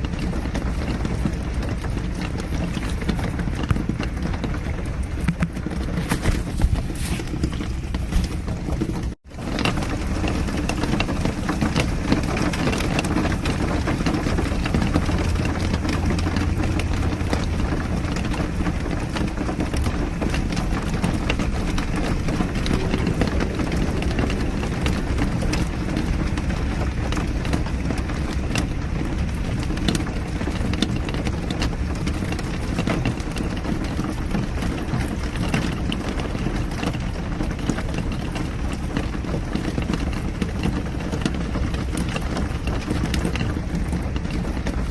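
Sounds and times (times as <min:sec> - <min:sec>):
car engine and road rumble: 0:00.0 - 0:44.9
raindrops ticking on car: 0:00.0 - 0:44.9.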